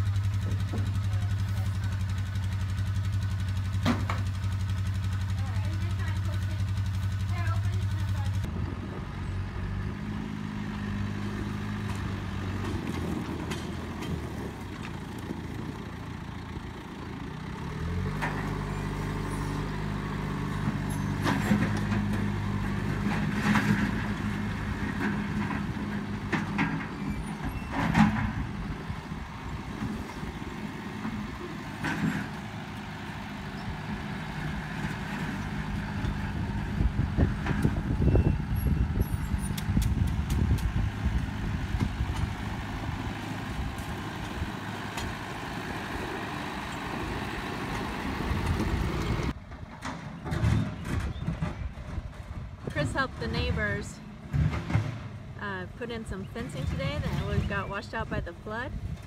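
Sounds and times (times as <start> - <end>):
loader bucket clanking on gravel: 0.0 - 2.1, 11.3 - 16.6, 17.6 - 59.0
tractor diesel engine running: 0.0 - 59.0.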